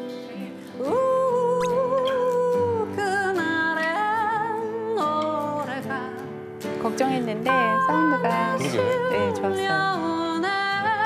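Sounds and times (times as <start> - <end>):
acoustic guitars: 0.0 - 11.0
woman singing: 0.0 - 11.0.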